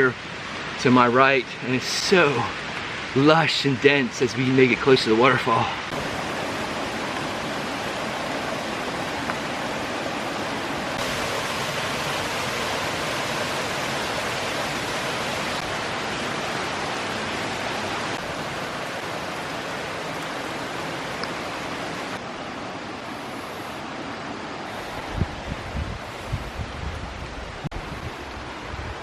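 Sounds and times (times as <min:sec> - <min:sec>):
brook water rushing over rocks: 0:00.0 - 0:29.0.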